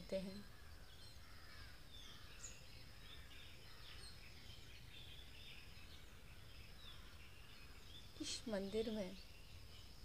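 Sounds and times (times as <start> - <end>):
birds chirping and whistling: 0.0 - 10.0.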